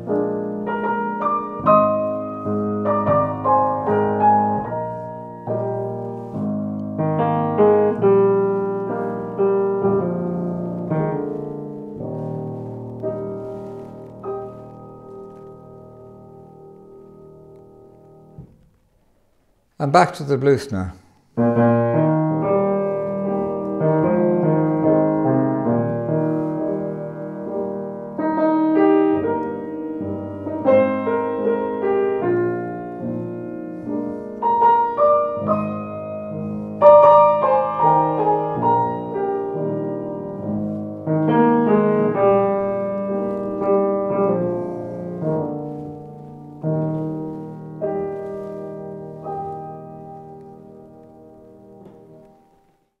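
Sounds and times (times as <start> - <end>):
grand piano chords: 0.0 - 18.8, 19.8 - 53.0.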